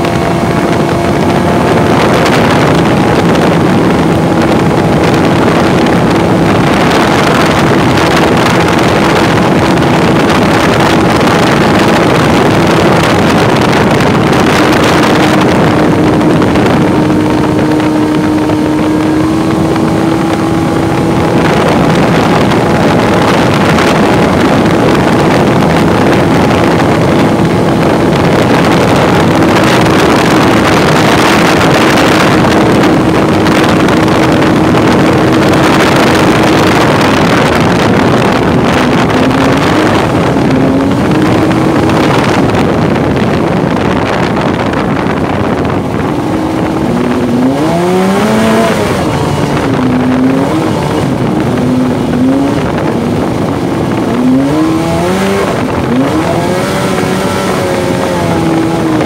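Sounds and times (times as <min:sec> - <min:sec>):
jet boat engine revving: 0:00.0 - 0:59.0
loud rushing noise: 0:00.0 - 0:59.0.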